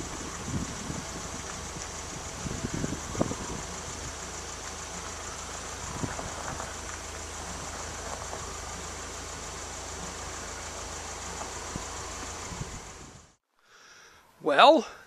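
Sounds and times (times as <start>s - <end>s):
forklift engine running: 0.0s - 13.4s.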